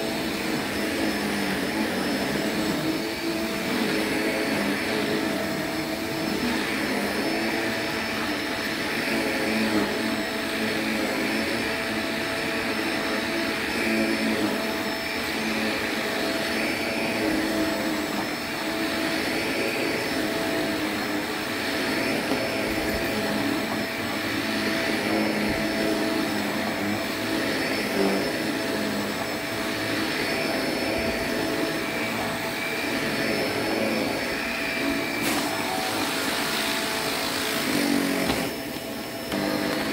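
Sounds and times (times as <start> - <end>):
vacuum cleaner running on rug: 0.0 - 39.9.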